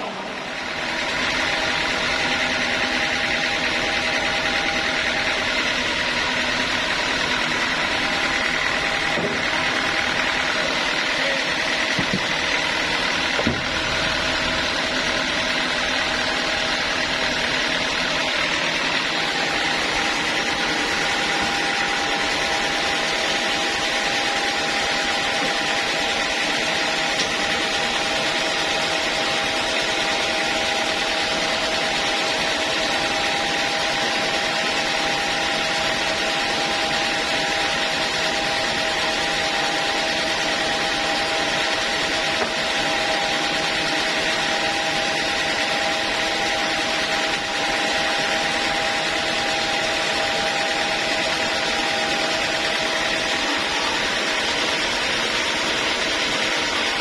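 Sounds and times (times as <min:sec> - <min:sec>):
high mechanical whine: 0:00.0 - 0:57.0
sawmill machinery humming: 0:00.0 - 0:57.0.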